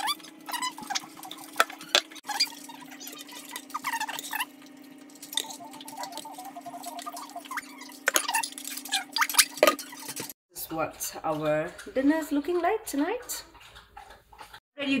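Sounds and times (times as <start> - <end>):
liquid dripping and pouring: 0.1 - 14.6.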